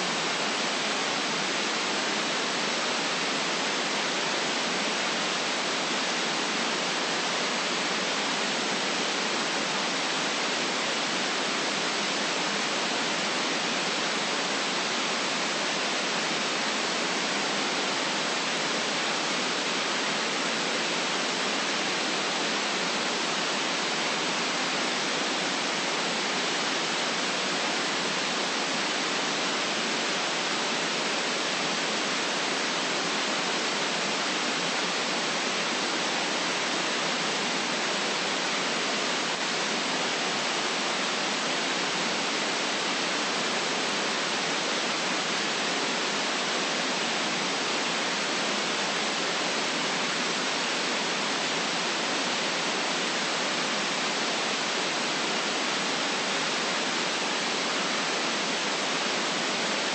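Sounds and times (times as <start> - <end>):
electronic white noise hiss: 0.0 - 59.9.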